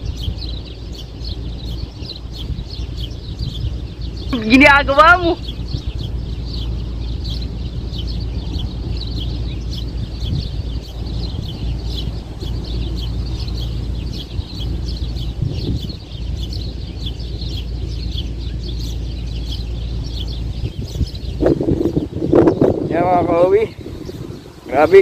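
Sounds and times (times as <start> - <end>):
small birds chirping: 0.0 - 25.0
wind rumble on microphone: 0.0 - 25.0.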